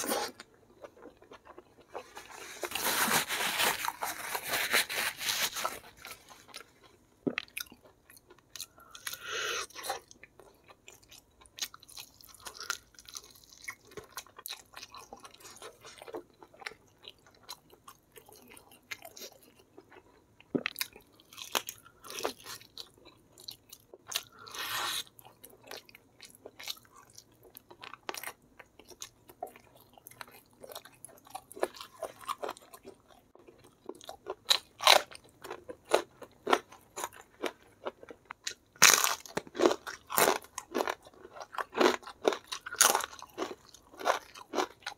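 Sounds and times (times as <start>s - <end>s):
crunchy bites and chewing: 5.4s - 44.9s.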